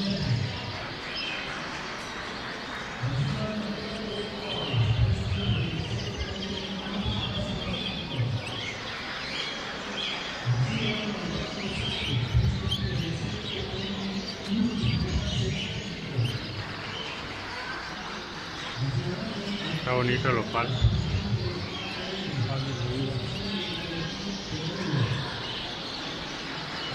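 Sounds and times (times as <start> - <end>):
birds chirping and twittering: 0.0 - 26.9
murmur of voices: 0.0 - 26.9.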